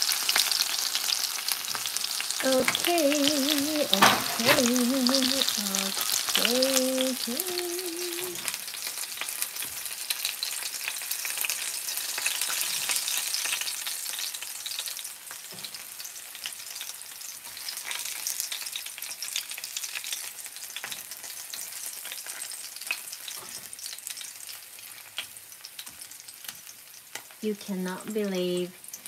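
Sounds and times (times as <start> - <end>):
chicken shallow-frying in oil: 0.0 - 29.0.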